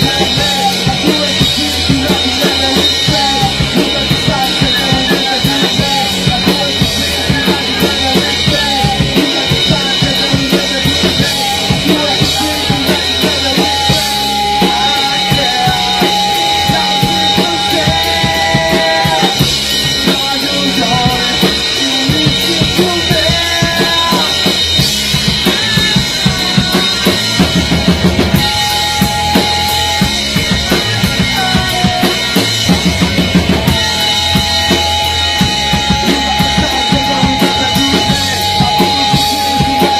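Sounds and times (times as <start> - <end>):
rock band instrumental: 0.0 - 39.9.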